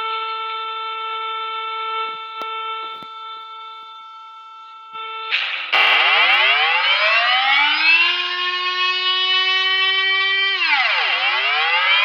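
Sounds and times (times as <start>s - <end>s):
steady siren tone: 0.0s - 12.0s
civil defence siren winding up: 0.4s - 12.0s.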